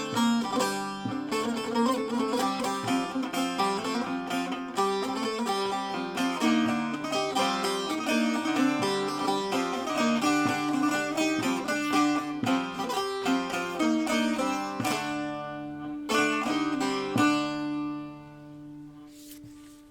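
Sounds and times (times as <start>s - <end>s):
plucked strings folk music: 0.0s - 19.9s.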